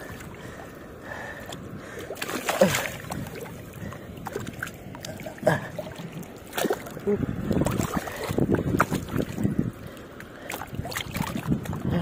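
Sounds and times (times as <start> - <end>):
shallow water splashing: 0.0 - 12.0.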